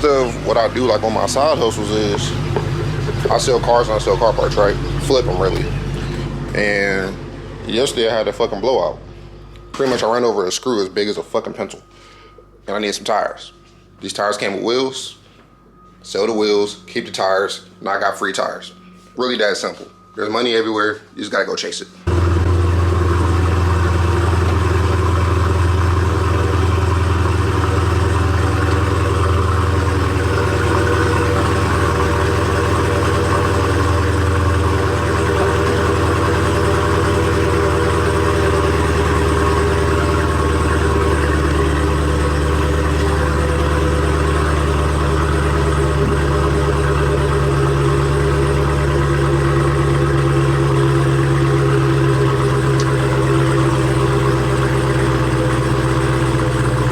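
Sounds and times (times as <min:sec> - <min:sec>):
car engine running: 0:00.0 - 0:14.6, 0:22.0 - 0:56.9.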